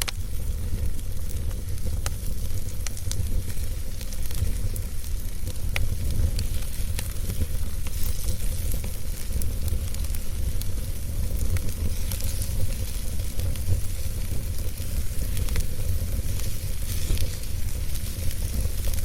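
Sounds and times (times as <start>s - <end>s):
wood fire burning: 0.0s - 19.0s.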